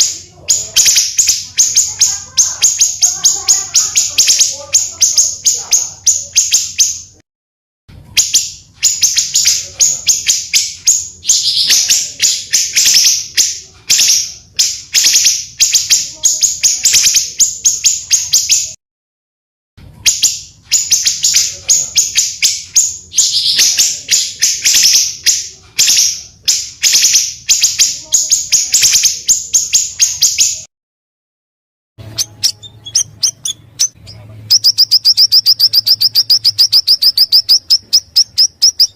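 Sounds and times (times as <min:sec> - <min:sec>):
songbirds chirping: 0:00.0 - 0:07.2, 0:07.9 - 0:18.8, 0:19.8 - 0:30.7, 0:32.0 - 0:38.9.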